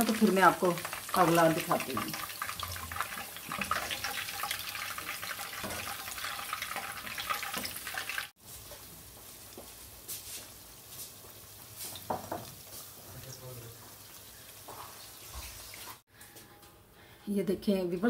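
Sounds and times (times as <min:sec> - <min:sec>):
chicken deep-frying in oil: 0:00.0 - 0:16.1.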